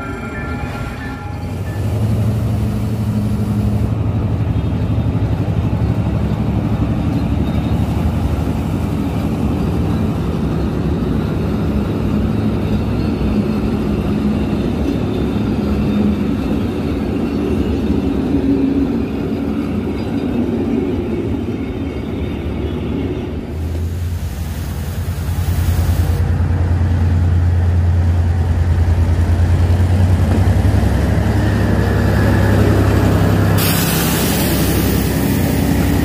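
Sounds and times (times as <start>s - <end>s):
train wheels rumbling and clattering: 0.0s - 36.0s.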